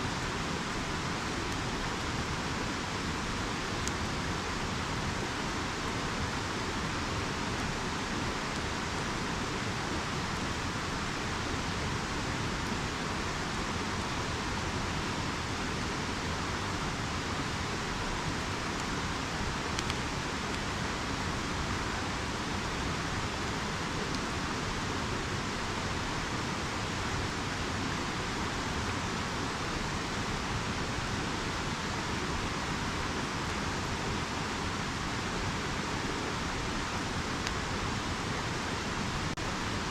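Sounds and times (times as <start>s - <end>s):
campfire crackling: 0.0s - 39.9s
river rushing: 0.0s - 39.9s.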